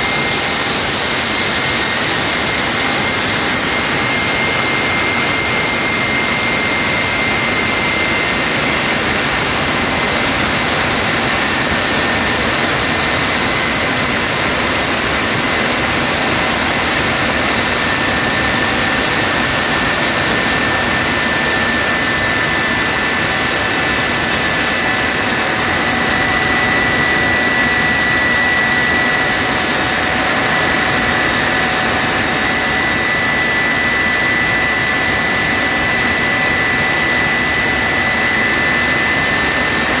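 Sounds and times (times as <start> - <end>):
jet engine roaring with whine: 0.0 - 40.0.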